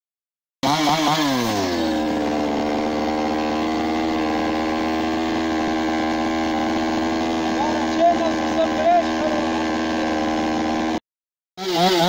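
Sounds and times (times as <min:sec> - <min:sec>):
chainsaw revving and idling: 0:00.6 - 0:11.0, 0:11.6 - 0:12.0.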